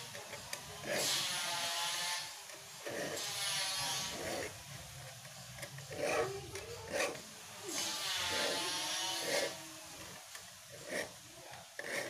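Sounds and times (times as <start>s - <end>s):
file rasping on saw teeth: 0.0s - 12.0s.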